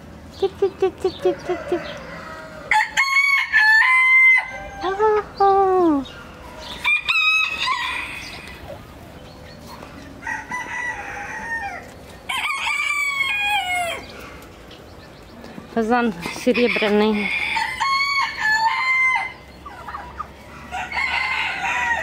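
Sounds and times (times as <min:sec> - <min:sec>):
roosters crowing: 0:01.0 - 0:22.0.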